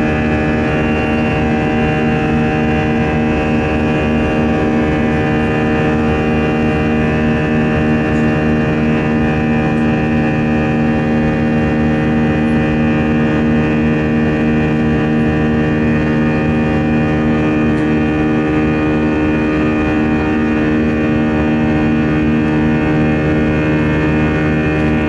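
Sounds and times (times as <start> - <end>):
jet engine drone: 0.0 - 25.0.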